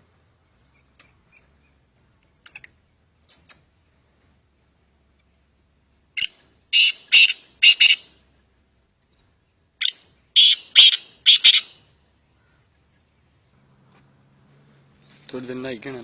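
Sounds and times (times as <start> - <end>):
francolin calling: 0.3 - 13.5.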